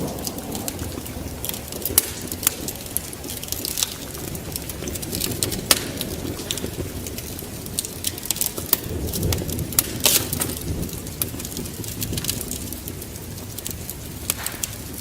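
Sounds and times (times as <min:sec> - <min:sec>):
sharp pops of fire: 0:00.0 - 0:15.0
steady low rumble: 0:00.0 - 0:15.0
wood fire crackling: 0:00.0 - 0:15.0.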